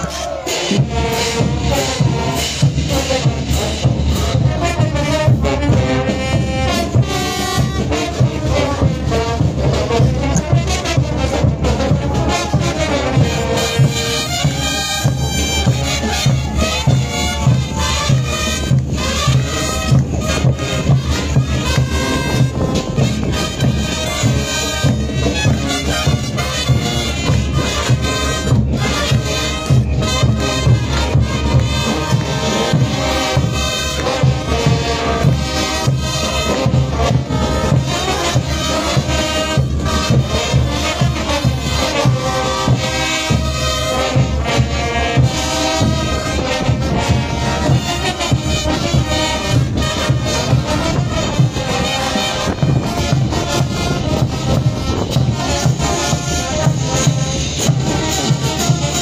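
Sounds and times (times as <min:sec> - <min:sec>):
brass band playing: 0:00.0 - 0:59.0
drum and cymbal beat: 0:00.3 - 0:59.0.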